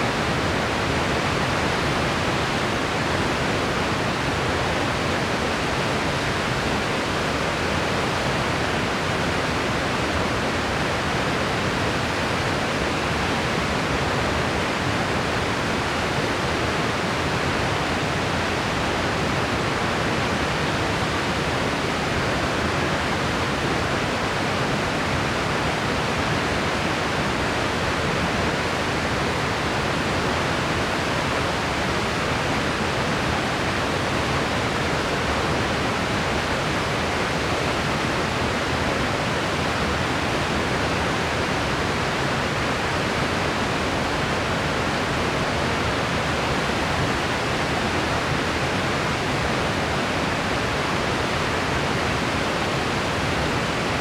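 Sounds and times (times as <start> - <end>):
steady white noise: 0.0 - 54.0.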